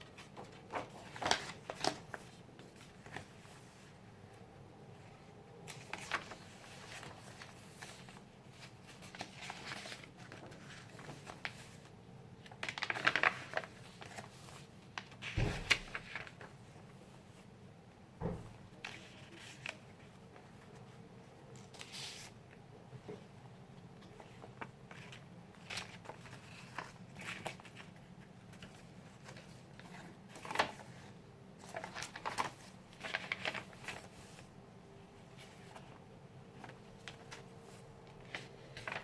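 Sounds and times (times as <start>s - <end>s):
paper pages rustling: 0.0s - 4.0s, 5.6s - 16.6s, 18.8s - 22.5s, 24.0s - 34.5s, 35.2s - 39.0s.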